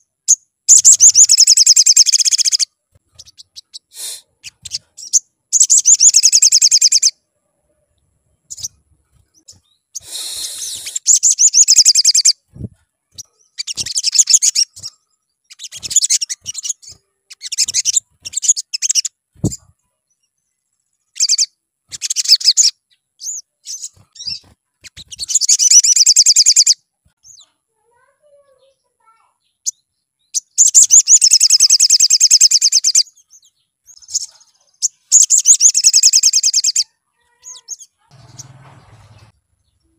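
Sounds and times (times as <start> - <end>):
bird trilling chirps: 0.0 - 7.2, 8.4 - 20.3, 21.0 - 27.6, 29.4 - 39.9.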